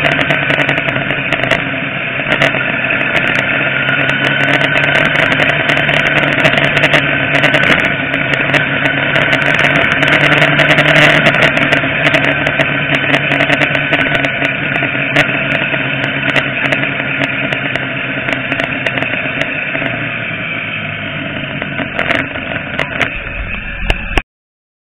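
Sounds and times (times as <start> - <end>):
wind noise: 0.0 - 20.2, 21.3 - 24.2
motorcycle engine running: 0.0 - 24.2.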